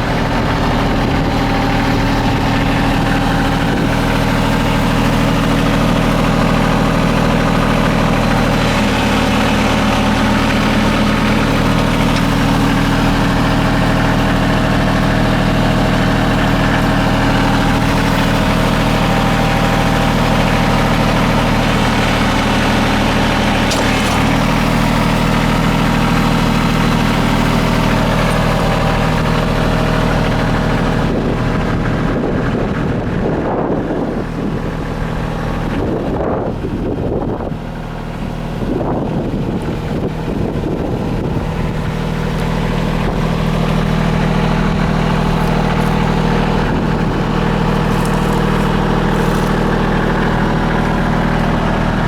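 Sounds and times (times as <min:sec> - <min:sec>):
tractor engine droning: 0:00.0 - 0:52.0.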